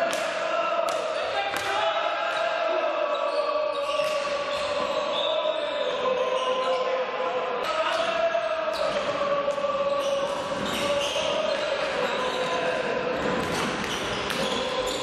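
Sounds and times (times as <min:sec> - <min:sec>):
crowd chanting long notes: 0:00.0 - 0:15.0.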